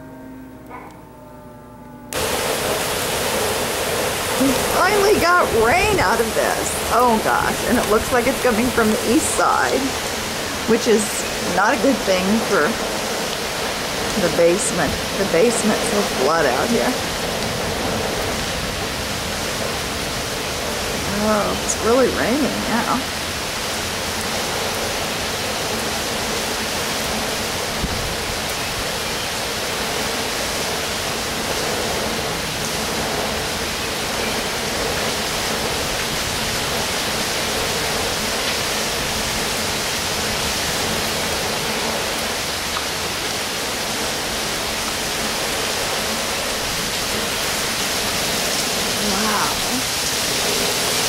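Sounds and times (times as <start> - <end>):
heavy rain pouring: 2.1 - 51.0.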